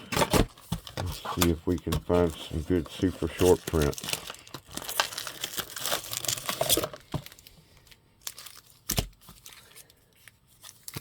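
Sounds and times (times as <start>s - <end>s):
foil wrapper tearing and crinkling: 0.5s - 11.0s.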